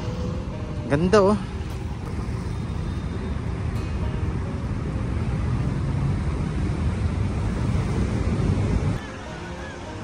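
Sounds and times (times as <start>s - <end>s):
low outdoor rumble: 0.0s - 9.1s.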